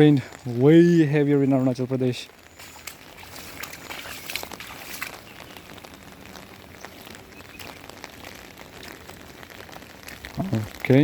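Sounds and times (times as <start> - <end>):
steady rain: 0.0 - 11.0
drops ticking on umbrella: 2.2 - 11.0.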